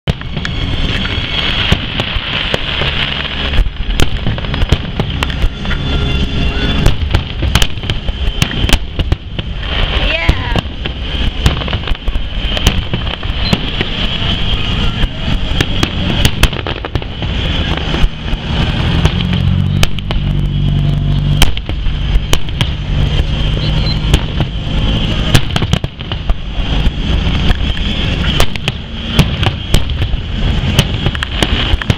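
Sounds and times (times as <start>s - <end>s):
fireworks bangs and crackles: 0.0s - 31.9s
low steady drone: 0.1s - 31.9s.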